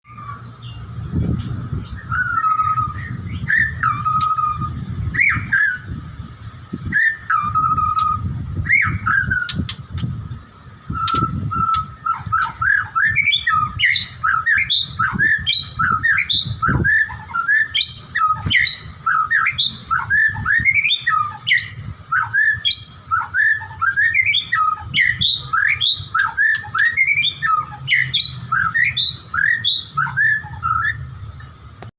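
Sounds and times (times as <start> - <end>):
songbird singing: 0.0 - 31.9.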